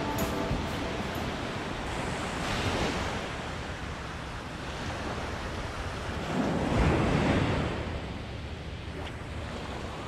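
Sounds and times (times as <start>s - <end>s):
waves washing up sand beach: 0.0s - 10.0s.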